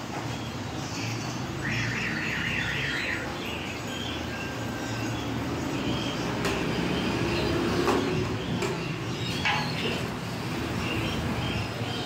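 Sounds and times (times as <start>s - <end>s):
traffic and crowd hum: 0.0s - 12.0s.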